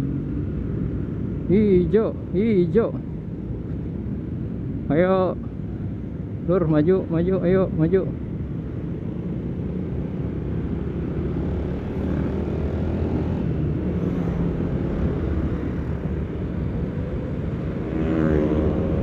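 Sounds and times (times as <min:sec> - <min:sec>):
scooter engine and road drone: 0:00.0 - 0:19.0.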